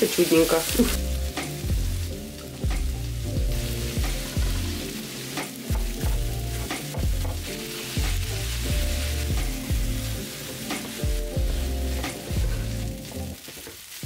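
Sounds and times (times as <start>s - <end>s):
low background music: 0.0s - 13.4s
fried rice sizzling in a frying pan: 0.0s - 14.0s.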